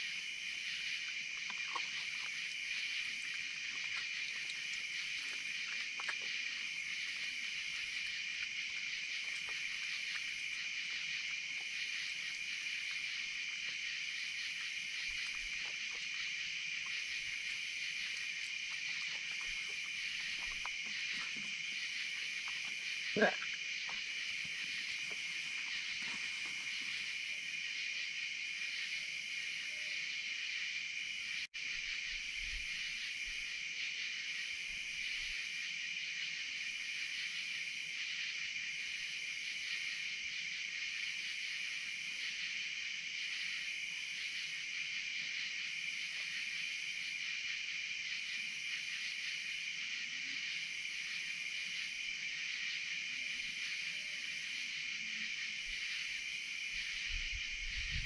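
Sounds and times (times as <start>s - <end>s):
higher pulsing insect call: 0.0s - 58.0s
night insects droning: 0.0s - 58.0s.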